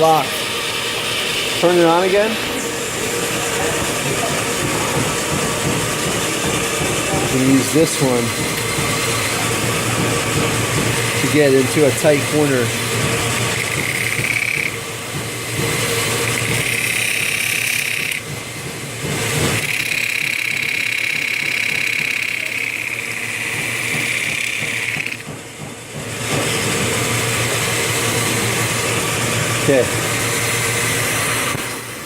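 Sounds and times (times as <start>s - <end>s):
tool cutting spinning wood: 0.0s - 32.0s
wood lathe motor hum: 0.0s - 32.0s.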